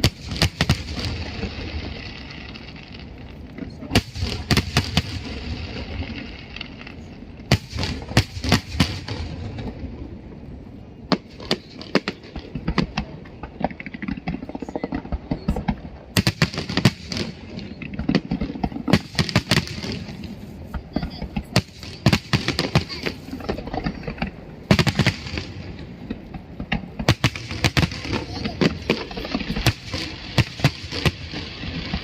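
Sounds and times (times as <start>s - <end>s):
fireworks bangs and crackles: 0.0s - 32.0s
crowd noise: 1.0s - 32.0s.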